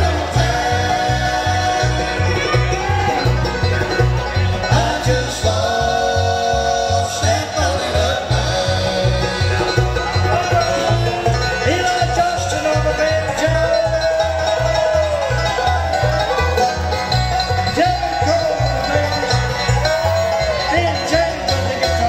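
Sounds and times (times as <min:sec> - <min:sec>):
bluegrass band playing: 0:00.0 - 0:22.0.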